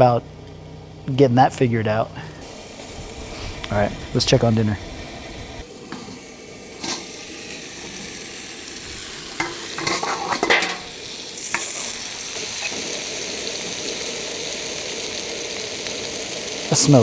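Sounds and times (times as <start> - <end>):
skewers and potatoes sizzling: 0.0 - 17.0.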